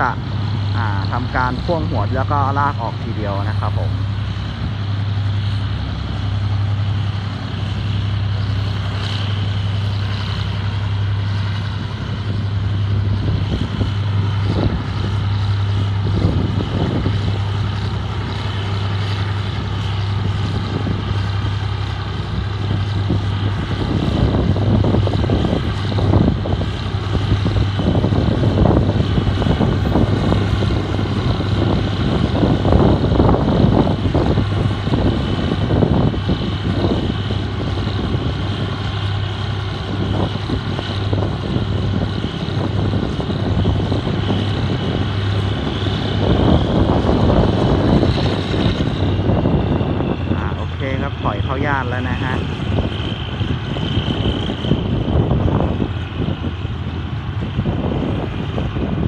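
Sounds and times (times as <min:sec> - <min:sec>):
diesel locomotive idling: 0:00.0 - 0:59.0
wind buffeting microphone: 0:00.0 - 0:59.0.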